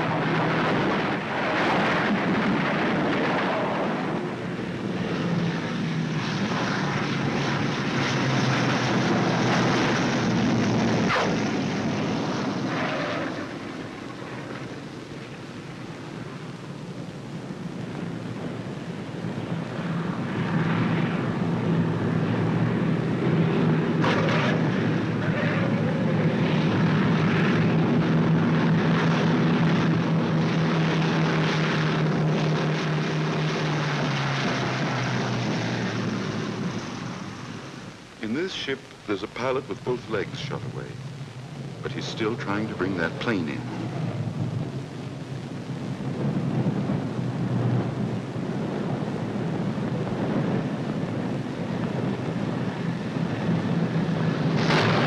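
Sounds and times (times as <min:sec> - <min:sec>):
piston aircraft engines droning: 0:00.0 - 0:55.0.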